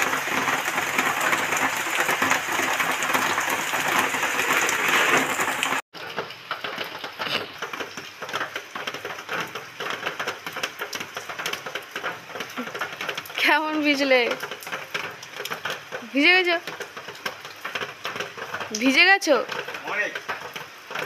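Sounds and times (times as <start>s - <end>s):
raindrops pattering: 0.0s - 21.0s
torrential rain on pavement: 0.0s - 21.0s.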